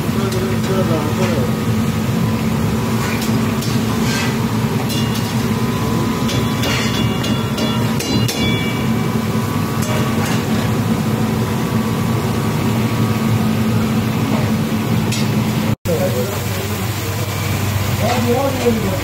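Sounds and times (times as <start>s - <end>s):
oil sizzling and bubbling: 0.0s - 19.0s.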